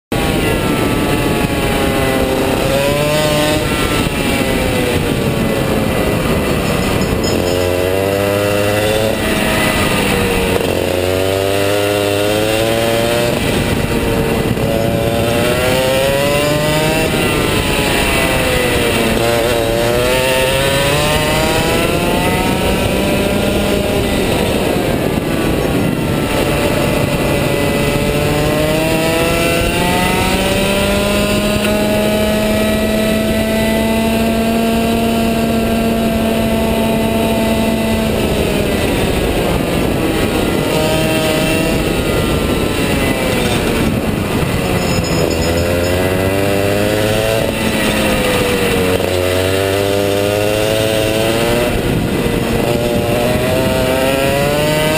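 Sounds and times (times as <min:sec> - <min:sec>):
kart engine revving: 0:00.1 - 0:54.9.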